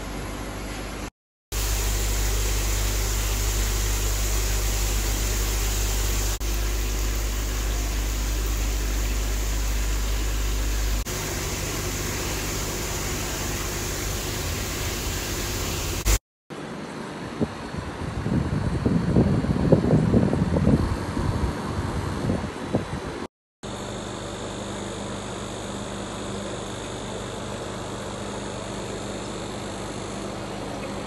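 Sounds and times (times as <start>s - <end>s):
aquarium pump hum and hiss: 0.0s - 31.0s.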